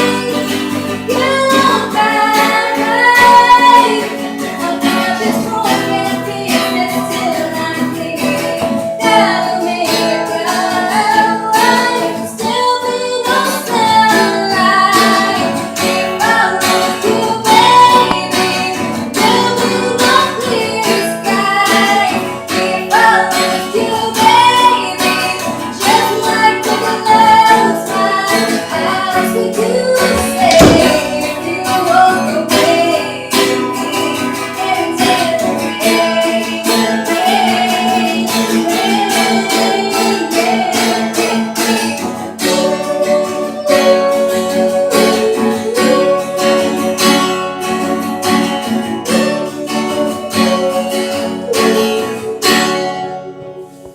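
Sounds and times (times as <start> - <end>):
woman singing: 0.0 - 53.8
acoustic guitar: 0.0 - 53.9.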